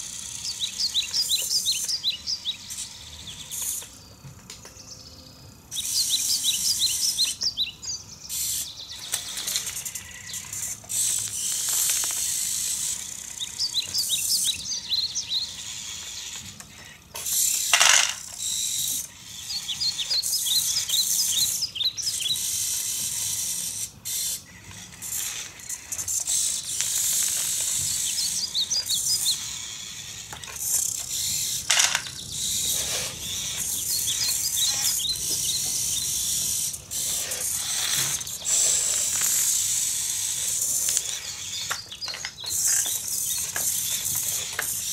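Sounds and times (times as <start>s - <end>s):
toy tractor motors whirring: 0.0s - 44.9s.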